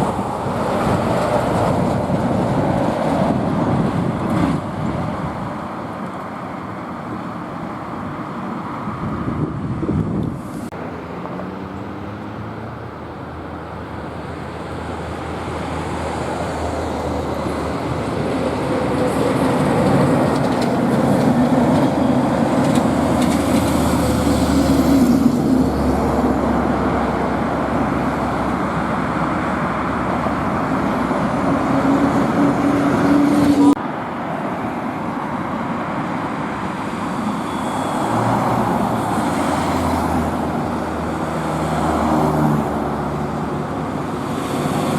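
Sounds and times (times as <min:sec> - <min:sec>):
road traffic driving past: 0:00.0 - 0:44.9.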